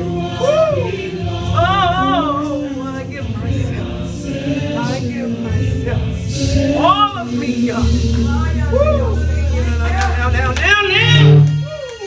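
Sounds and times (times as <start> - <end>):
gospel singing with vibrato: 0.0 - 12.0
held instrumental notes: 0.0 - 12.0.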